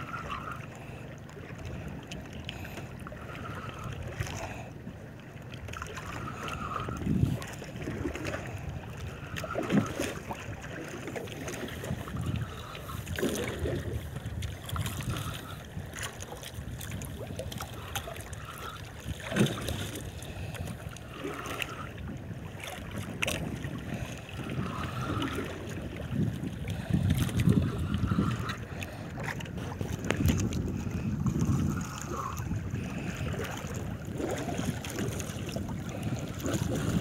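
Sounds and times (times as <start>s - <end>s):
water slapping against a hull: 0.0s - 37.0s
wind buffeting microphone: 6.2s - 10.6s, 11.4s - 37.0s.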